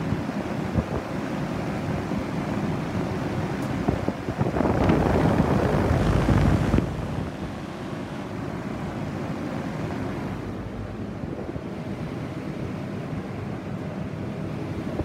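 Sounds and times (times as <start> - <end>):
heat pump fan blowing air: 0.0 - 15.0.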